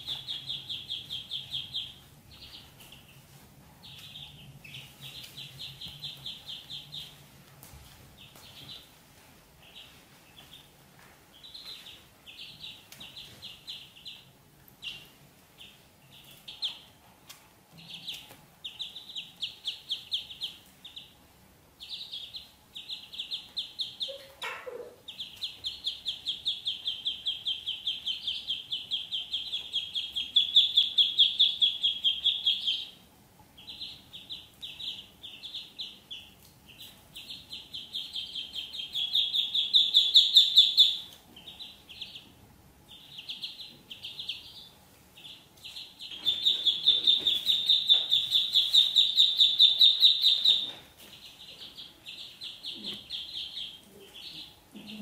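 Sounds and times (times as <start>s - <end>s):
ducklings peeping: 0.0s - 55.0s.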